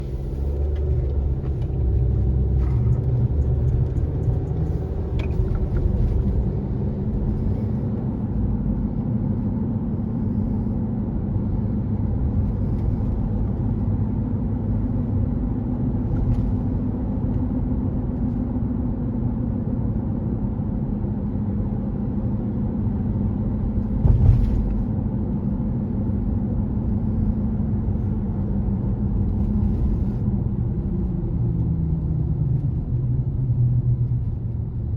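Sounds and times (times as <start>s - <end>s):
car road rumble: 0.0s - 34.9s.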